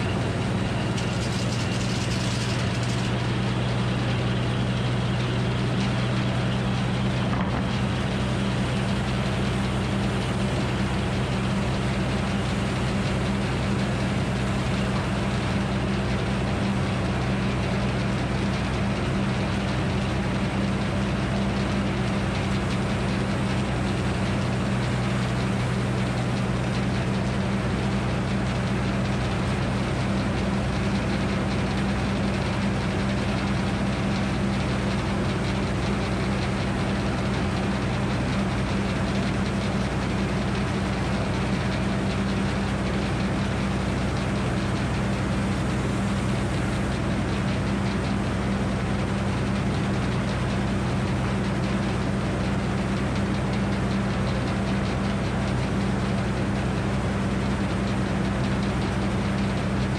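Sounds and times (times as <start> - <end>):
sawmill low hum: 0.0 - 59.9.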